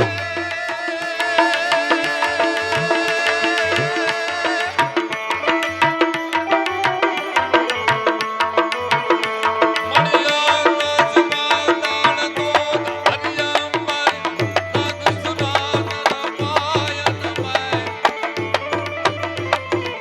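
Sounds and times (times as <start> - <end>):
fast tabla playing: 0.0 - 20.0.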